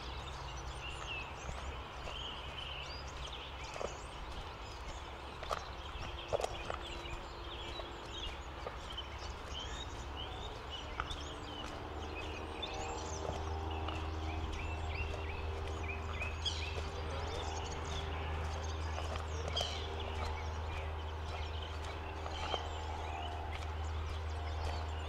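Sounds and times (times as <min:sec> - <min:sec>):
footsteps: 0:00.0 - 0:25.0
low droning hum: 0:00.0 - 0:25.0
small birds chirping: 0:00.0 - 0:25.0.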